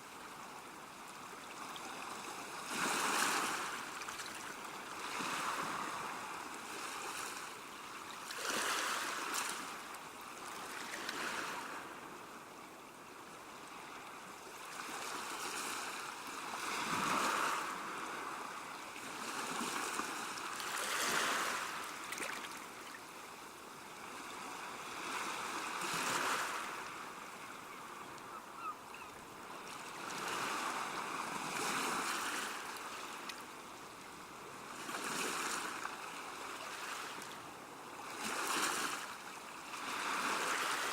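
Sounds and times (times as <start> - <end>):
sea waves breaking on shore: 1.2 - 12.4, 13.6 - 40.9.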